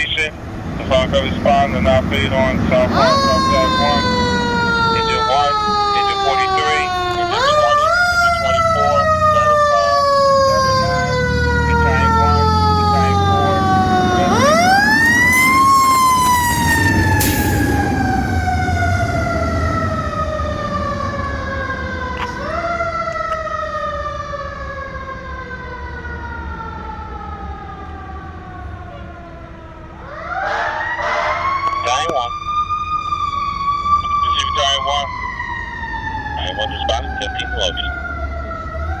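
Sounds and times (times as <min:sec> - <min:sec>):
truck engine rumbling: 0:00.0 - 0:39.0
mechanical siren wailing: 0:01.2 - 0:39.0.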